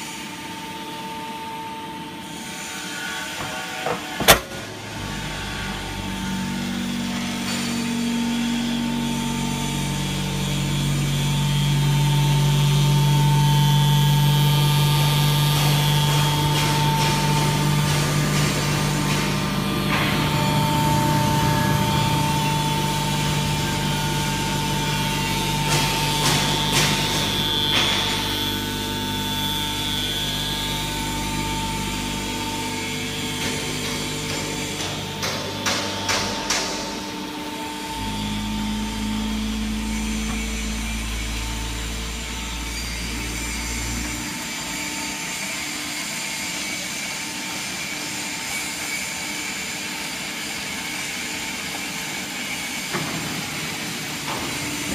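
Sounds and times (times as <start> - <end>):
motor and pump hum and whine: 0.0 - 54.9.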